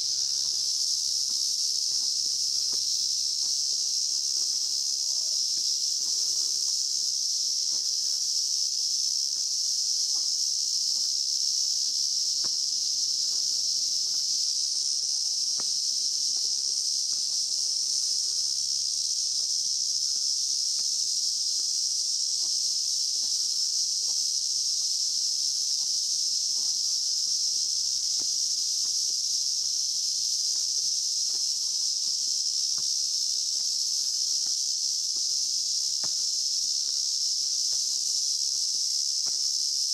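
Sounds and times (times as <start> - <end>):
cicadas buzzing chorus: 0.0 - 39.9.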